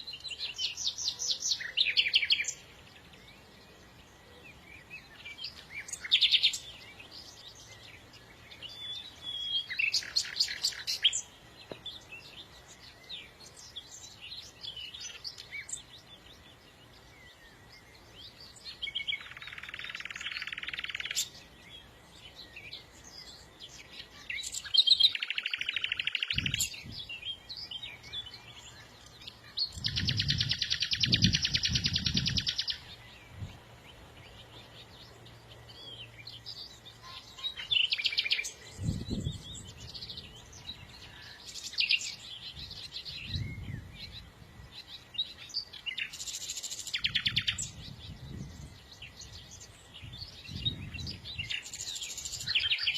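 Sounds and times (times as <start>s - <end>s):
songbird chirping: 0.0s - 52.9s.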